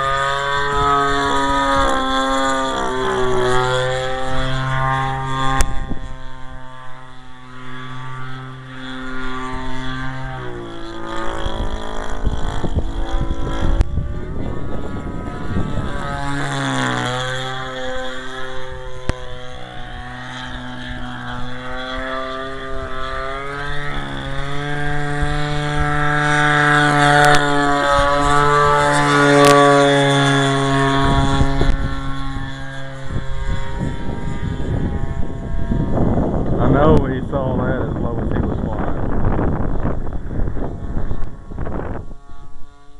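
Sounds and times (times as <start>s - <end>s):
model plane two-stroke engine: 0.0s - 42.9s
wind buffeting microphone: 0.0s - 42.9s.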